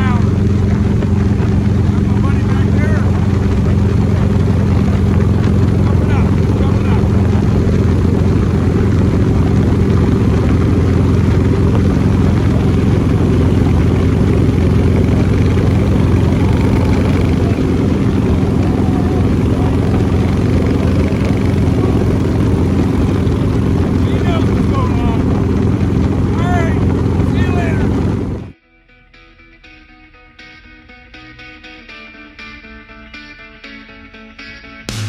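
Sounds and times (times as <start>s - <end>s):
vehicle engine drone: 0.0s - 28.6s.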